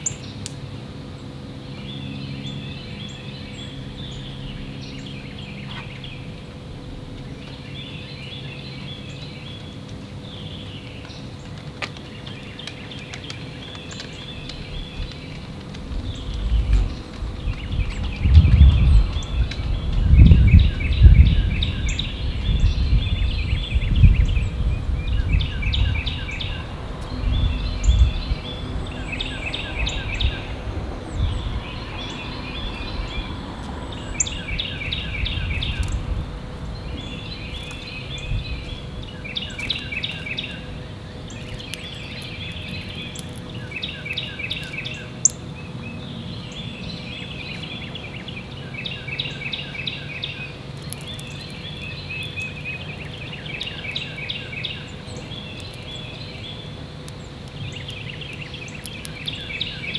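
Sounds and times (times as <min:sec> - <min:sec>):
songbird trilling: 0:01.7 - 0:11.4, 0:12.1 - 0:59.9
wind rumble on microphone: 0:01.7 - 0:59.9.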